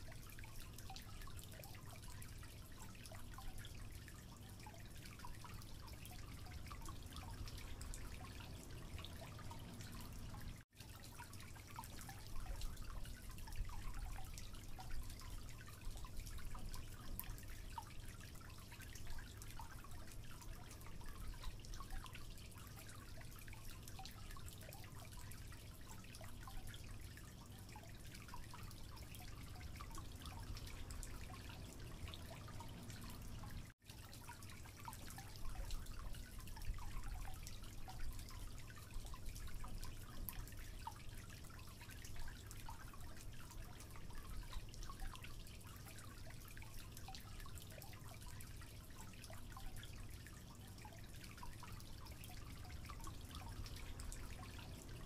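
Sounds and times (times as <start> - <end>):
water dripping: 0.0 - 55.0.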